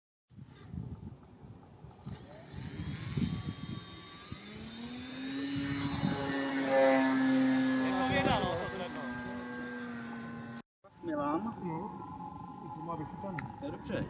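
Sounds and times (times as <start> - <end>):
model airplane motor: 0.9 - 14.0.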